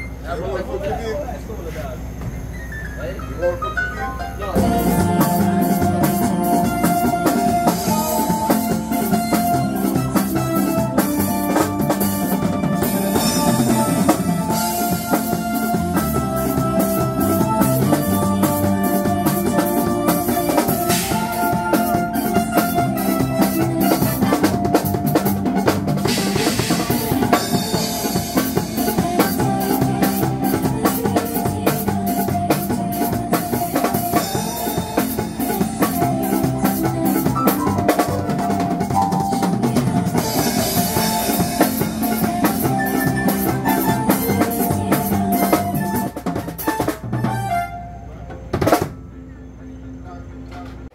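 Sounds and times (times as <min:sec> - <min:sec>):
drum kit playing a busy beat: 0:02.0 - 0:49.2
held melodic tones: 0:02.8 - 0:50.9.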